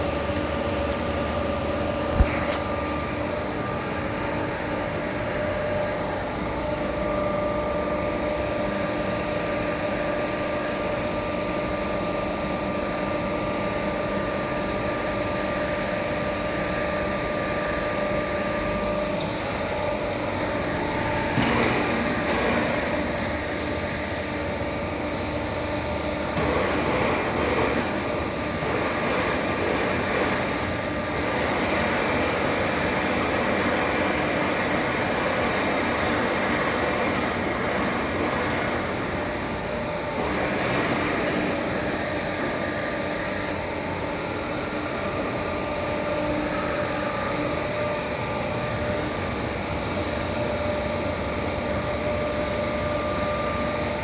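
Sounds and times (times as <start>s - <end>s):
lathe mechanical hum: 0.0s - 54.0s.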